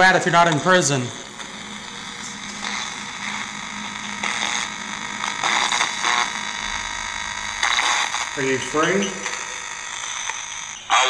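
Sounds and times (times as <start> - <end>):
choppy radio static: 0.0 - 11.0
static noise bursts: 0.0 - 11.0.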